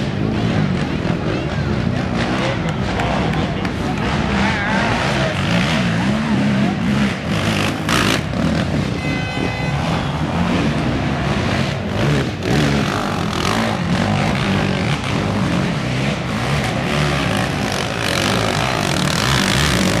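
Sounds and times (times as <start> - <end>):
quad engines revving: 0.0 - 20.0.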